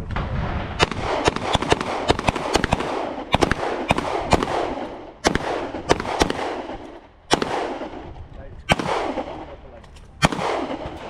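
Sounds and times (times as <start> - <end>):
handguns firing with echo: 0.8 - 11.0.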